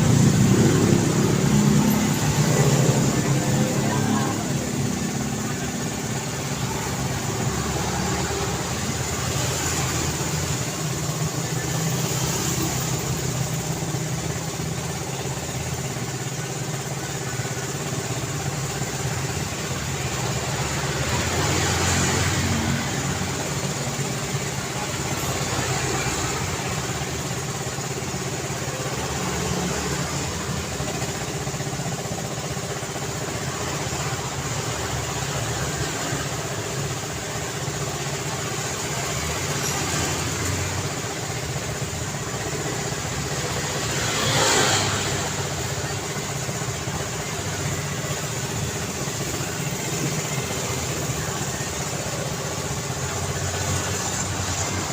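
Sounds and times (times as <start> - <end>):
road traffic: 0.0 - 54.9.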